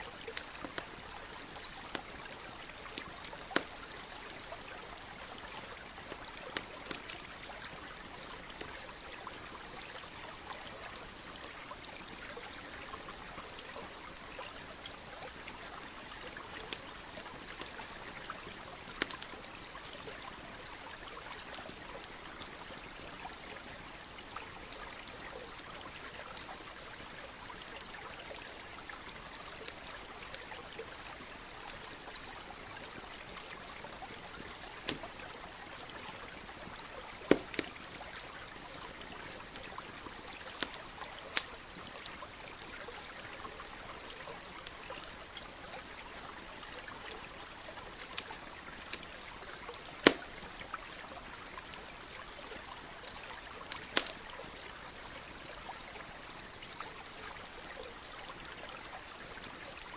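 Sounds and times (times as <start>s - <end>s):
campfire crackling and popping: 0.0s - 59.9s
small stream rushing: 0.0s - 59.9s.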